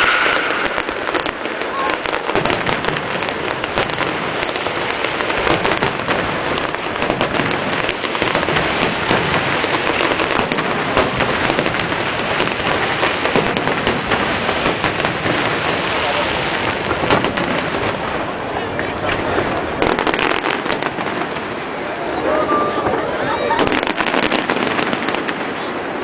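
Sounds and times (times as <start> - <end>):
fireworks bursting: 0.0 - 26.0
fireworks crackling: 0.0 - 26.0.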